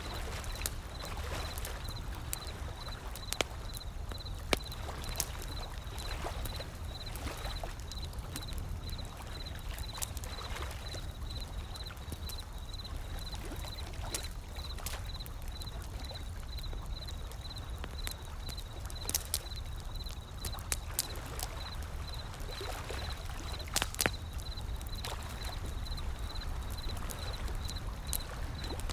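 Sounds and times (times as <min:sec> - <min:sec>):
wood fire crackling and popping: 0:00.0 - 0:28.9.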